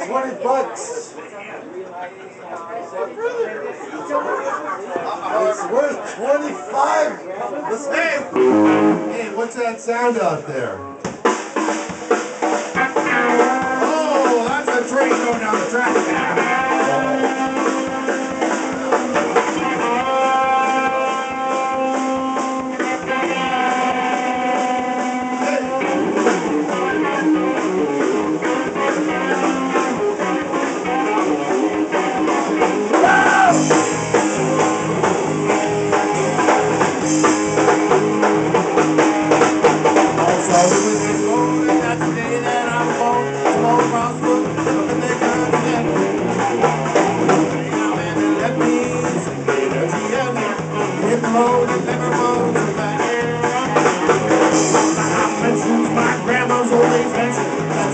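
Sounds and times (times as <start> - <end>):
electric guitar: 8.2 - 9.4, 10.8 - 57.9
drum kit beat: 8.3 - 9.5, 11.0 - 57.9
electric bass: 8.4 - 9.4, 12.5 - 57.9.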